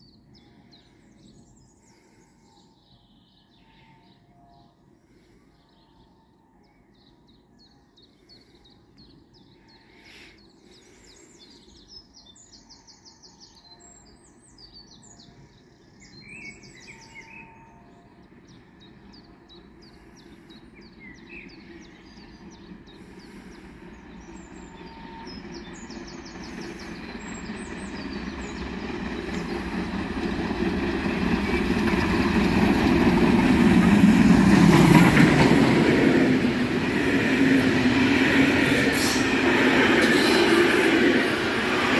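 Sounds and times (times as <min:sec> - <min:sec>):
steam locomotive approaching: 0:07.3 - 0:41.9.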